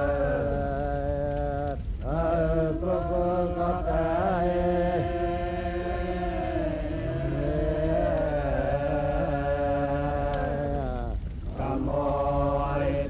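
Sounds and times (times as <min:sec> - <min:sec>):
voices chanting: 0:00.0 - 0:13.0.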